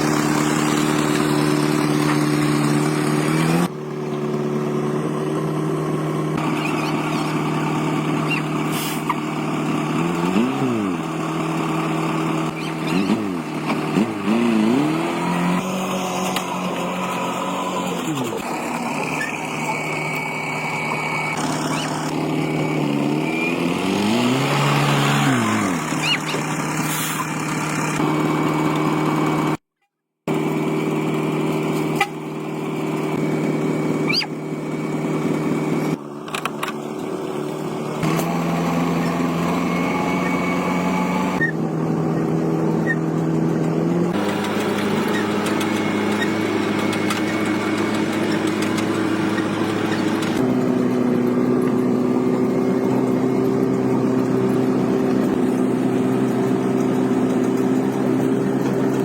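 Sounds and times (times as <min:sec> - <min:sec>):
engine running: 0:00.0 - 0:29.6, 0:30.3 - 0:59.0.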